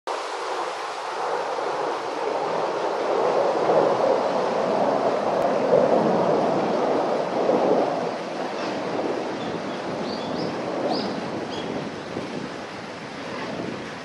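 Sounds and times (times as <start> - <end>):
steady rushing noise: 0.1 - 14.0.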